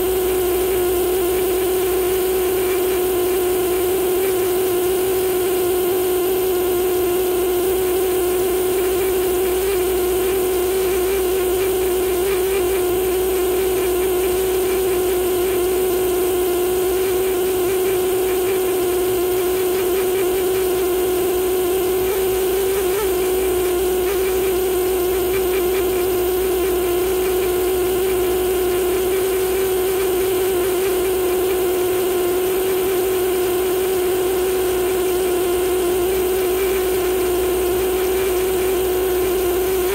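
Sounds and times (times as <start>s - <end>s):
air scribe buzzing: 0.0s - 39.9s.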